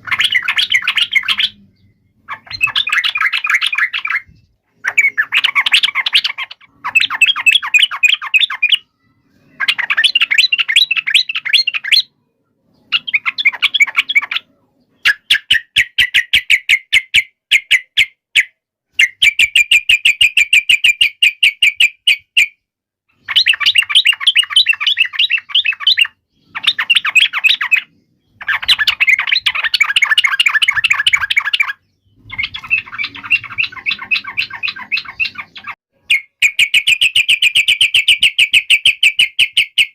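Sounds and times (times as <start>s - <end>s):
bird harsh chattering calls: 0.0s - 39.9s.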